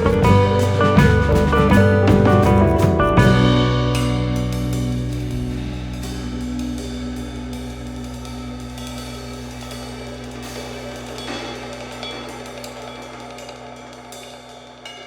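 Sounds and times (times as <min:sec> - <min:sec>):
sustained low notes: 0:00.0 - 0:12.3
drum kit music: 0:00.0 - 0:15.0.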